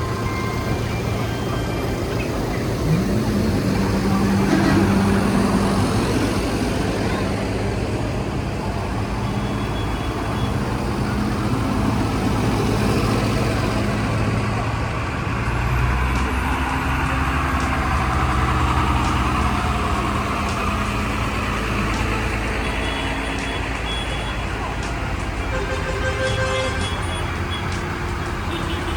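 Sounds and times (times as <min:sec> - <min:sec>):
deeper engine drone: 0:00.0 - 0:28.9
tractor engines driving past: 0:00.0 - 0:28.9.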